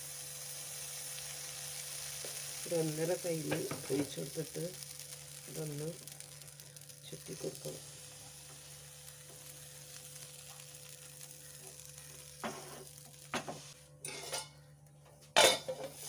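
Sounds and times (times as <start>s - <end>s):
batter sizzling in a pan: 0.0s - 14.5s, 15.4s - 16.0s.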